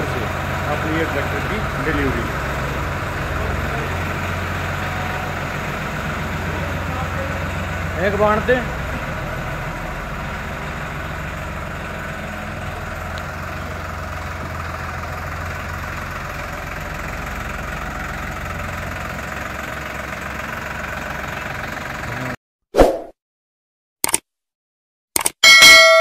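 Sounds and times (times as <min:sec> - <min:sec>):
tractor diesel engine idling: 0:00.0 - 0:22.4.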